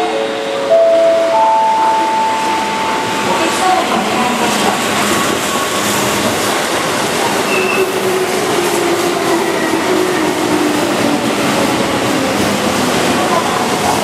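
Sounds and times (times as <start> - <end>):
train wheels rumbling on rails: 1.6 - 14.0.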